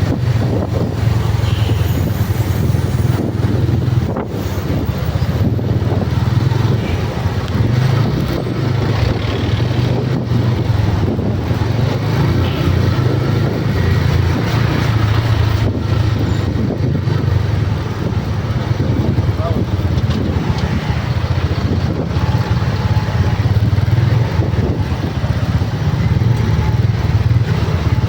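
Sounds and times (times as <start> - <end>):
road and wind noise: 0.0 - 28.0
vehicle engine running: 0.0 - 28.0.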